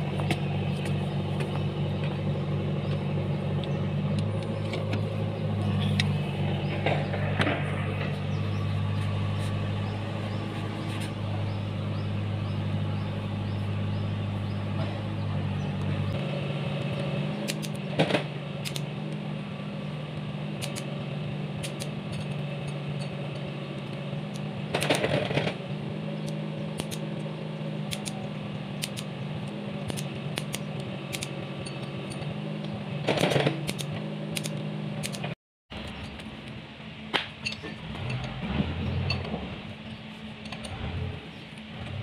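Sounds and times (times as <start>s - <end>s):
machine humming: 0.0s - 35.1s.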